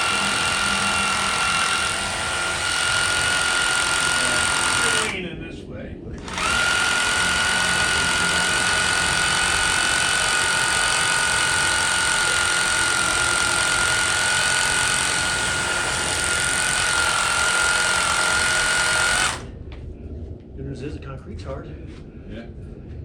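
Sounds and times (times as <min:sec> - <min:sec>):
hammer drill boring into concrete: 0:00.0 - 0:05.2, 0:06.2 - 0:19.5.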